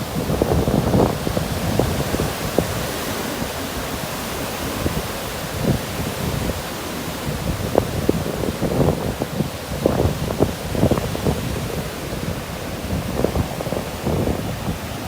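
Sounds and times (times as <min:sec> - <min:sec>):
ocean surf on a beach: 0:00.0 - 0:15.0
wind buffeting microphone: 0:00.0 - 0:15.0.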